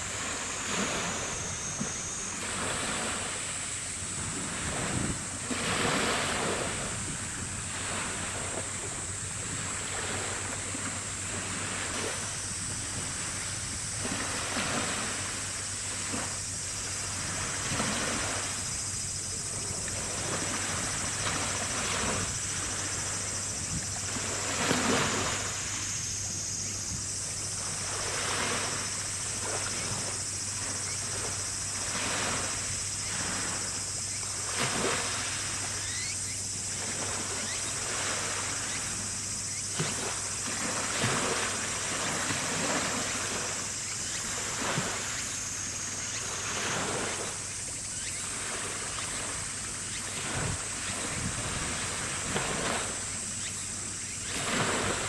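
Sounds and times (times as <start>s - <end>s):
water sloshing: 7.7s - 55.0s.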